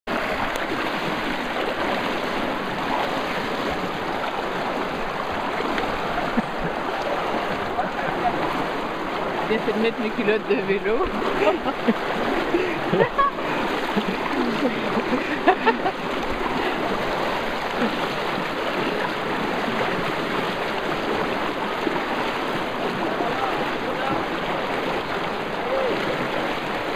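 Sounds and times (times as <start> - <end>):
river water rushing: 0.1 - 26.9.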